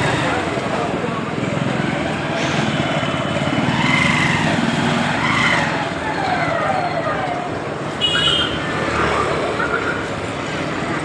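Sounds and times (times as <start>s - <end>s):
motorcycle engine: 0.0s - 11.0s
road noise: 0.0s - 11.0s.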